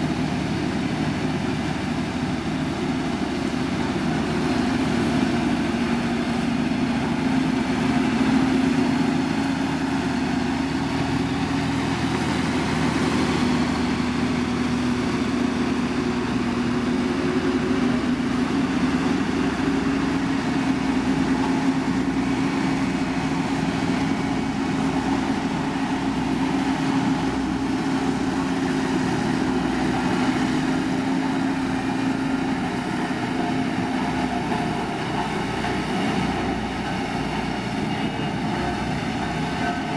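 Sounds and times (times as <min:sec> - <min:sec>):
heavy machine diesel engine running: 0:00.0 - 0:39.9.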